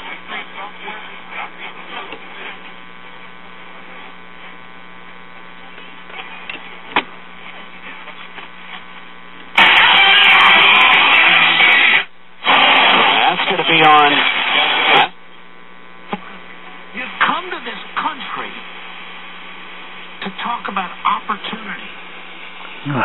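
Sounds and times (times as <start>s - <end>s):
faint radio station: 0.0s - 23.0s
hissing radio static: 0.0s - 23.0s
radio hum: 0.0s - 23.0s.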